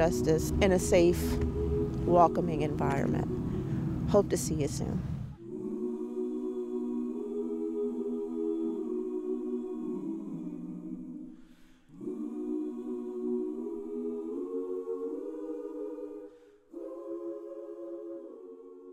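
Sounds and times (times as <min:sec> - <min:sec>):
choir singing held chords: 0:00.0 - 0:18.9.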